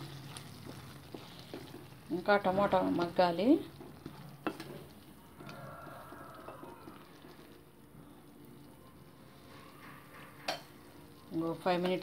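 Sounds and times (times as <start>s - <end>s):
sauce bubbling: 0.0s - 12.0s.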